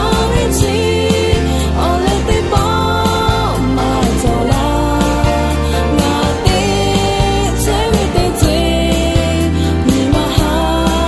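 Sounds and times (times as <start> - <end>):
pop backing band: 0.0 - 11.0
woman singing: 0.0 - 11.0.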